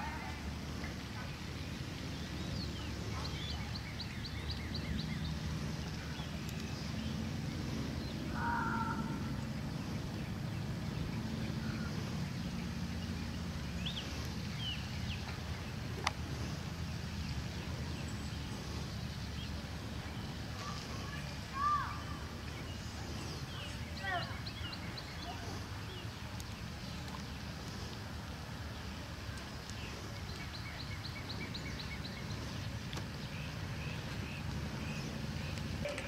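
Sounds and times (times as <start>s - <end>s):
low steady hum: 0.0s - 36.0s
small birds chirping: 0.0s - 36.0s.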